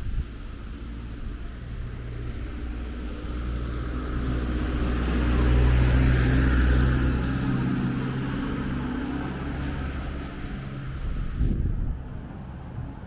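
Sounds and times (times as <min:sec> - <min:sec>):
vehicle driving past: 0:01.0 - 0:13.0.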